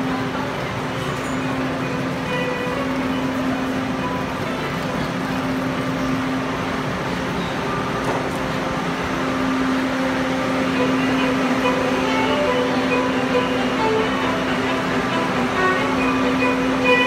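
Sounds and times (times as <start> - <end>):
metro train humming: 0.0 - 17.0
underground station noise: 0.0 - 17.0.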